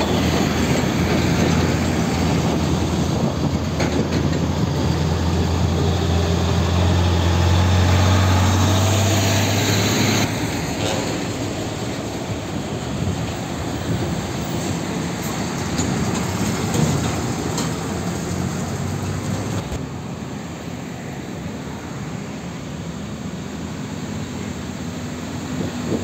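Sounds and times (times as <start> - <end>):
truck diesel engine approaching: 0.0 - 26.0
truck diesel engine passing: 0.0 - 26.0.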